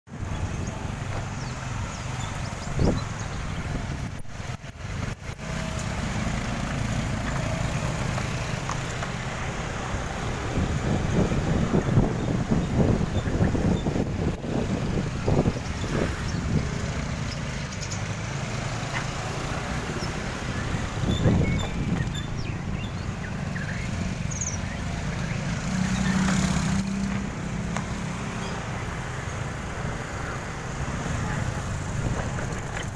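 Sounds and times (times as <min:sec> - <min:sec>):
vehicle engine and road rumble: 0:00.1 - 0:32.9.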